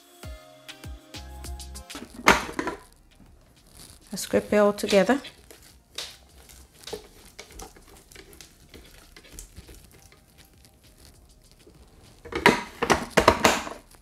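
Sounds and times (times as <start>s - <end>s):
spatula scraping plastic bowl: 1.9s - 14.0s.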